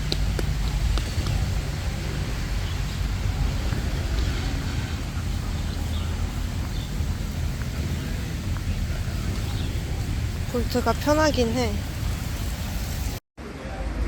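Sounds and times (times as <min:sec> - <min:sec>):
wind noise: 0:00.0 - 0:13.2
moving vehicle rumble: 0:00.0 - 0:14.0.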